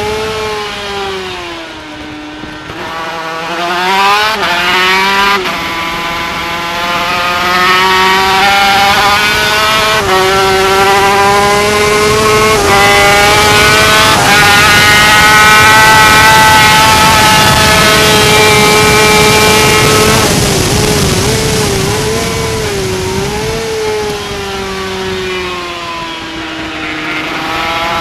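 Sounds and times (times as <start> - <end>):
two-stroke racing engine revving: 0.0 - 28.0
wind rushing: 3.5 - 28.0.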